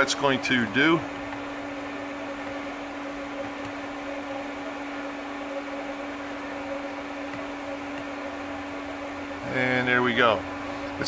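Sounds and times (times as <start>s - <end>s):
machine hum with low tone: 0.0s - 11.0s.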